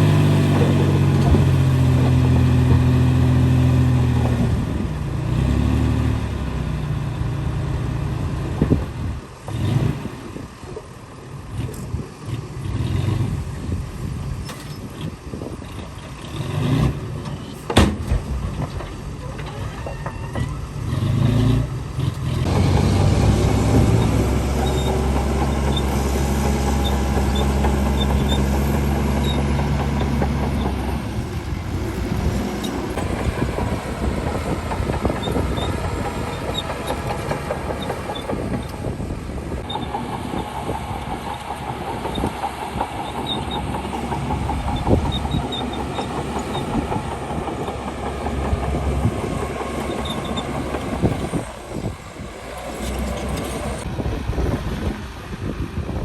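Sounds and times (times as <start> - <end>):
steel tracks clanking: 0.0 - 7.1, 8.2 - 53.9
bulldozer diesel engine: 0.0 - 56.0.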